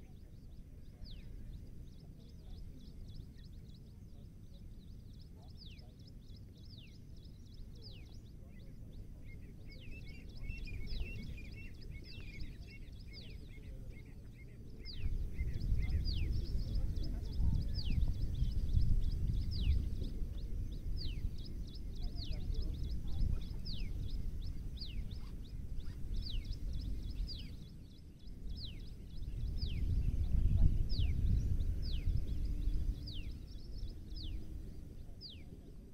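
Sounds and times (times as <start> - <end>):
birds chattering: 0.0 - 35.9
birds whistling: 4.8 - 35.6
wind buffeting microphone: 6.3 - 35.9.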